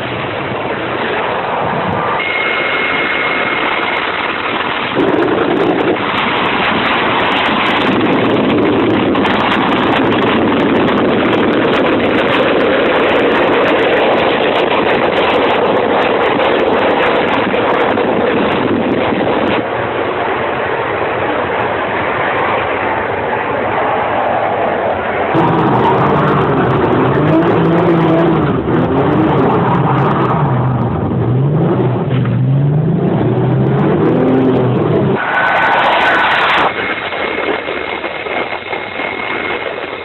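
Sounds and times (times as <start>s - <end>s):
vehicle noise: 0.0s - 40.0s
wind rushing over microphone: 0.0s - 40.0s.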